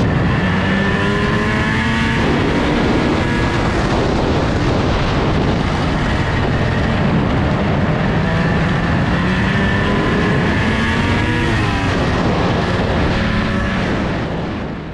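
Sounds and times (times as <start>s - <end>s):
snowmobile engine running: 0.0s - 14.9s
snowmobile track noise: 0.0s - 14.9s
wind rushing: 0.0s - 14.9s.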